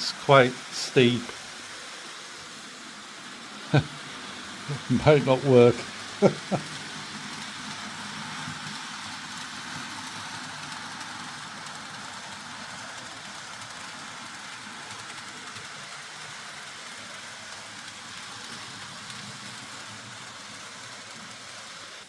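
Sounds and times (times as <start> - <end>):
model train wheels rumbling: 0.0 - 22.0.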